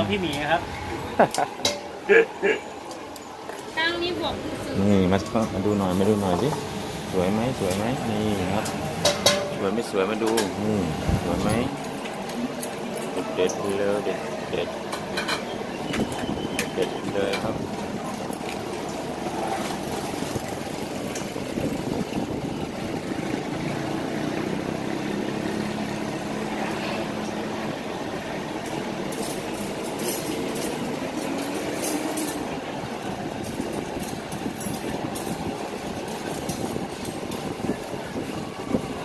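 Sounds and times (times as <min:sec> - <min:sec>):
vehicle traffic rumble: 0:00.0 - 0:39.0.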